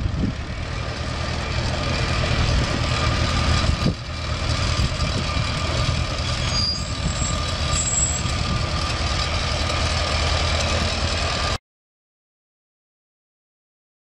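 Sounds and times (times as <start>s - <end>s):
tractor engine running: 0.0s - 11.6s.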